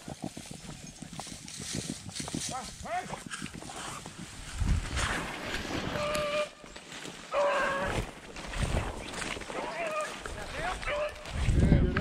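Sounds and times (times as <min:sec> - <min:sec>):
pushing through dry grass and brush: 0:01.1 - 0:11.8.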